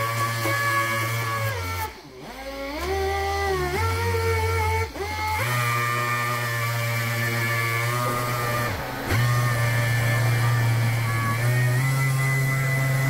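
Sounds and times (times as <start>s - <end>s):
orbital sander whining: 0.0s - 13.0s.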